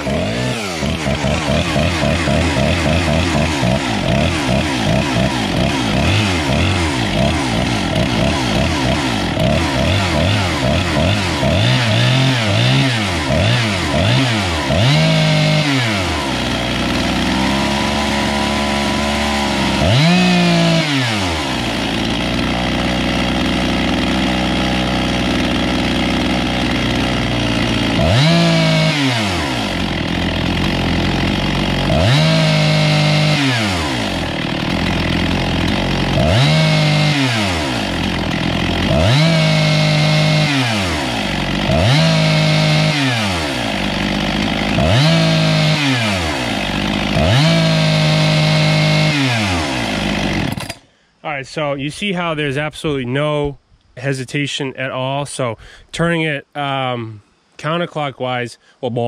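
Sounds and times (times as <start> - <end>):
chainsaw idling and revving: 0.0 - 51.0.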